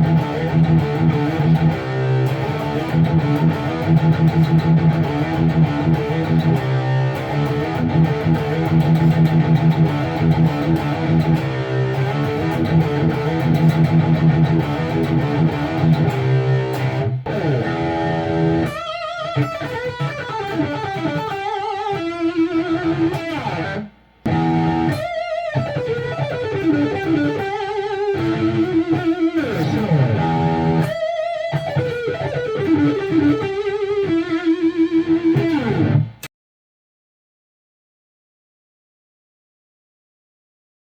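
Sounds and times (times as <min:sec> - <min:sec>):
electric guitar playing: 0:00.0 - 0:36.3.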